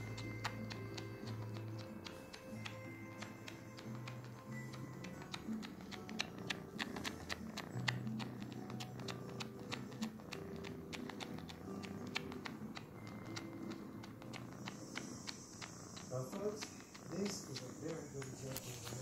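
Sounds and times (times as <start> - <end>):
faint background music: 0.0 - 19.0
kitten sucking clicks: 0.0 - 19.0.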